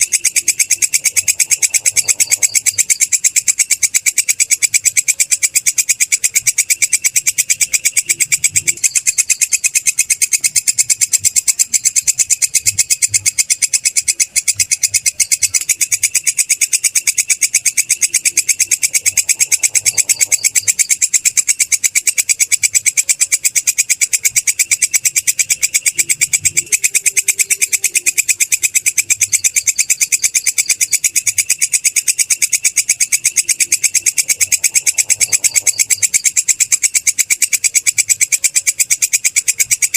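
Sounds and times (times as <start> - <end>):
katydid trilling: 0.0 - 39.9.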